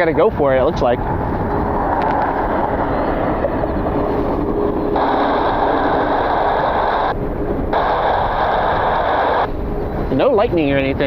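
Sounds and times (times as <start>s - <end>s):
jet engines whining: 0.0s - 11.0s
wind rumbling on microphone: 0.0s - 11.0s.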